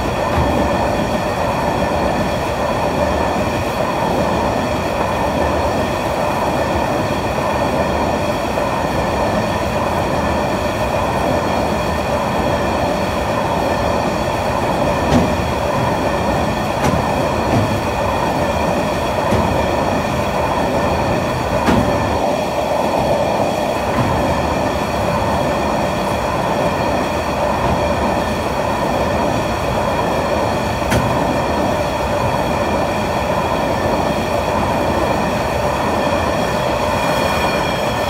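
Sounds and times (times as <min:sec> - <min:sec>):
freight train wheels rumbling: 0:00.0 - 0:38.0
steady high whine: 0:00.0 - 0:38.0.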